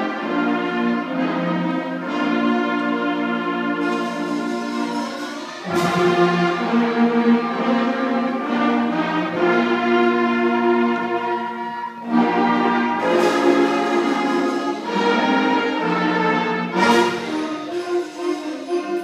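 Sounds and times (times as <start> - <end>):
concert band playing held chords: 0.0 - 19.0.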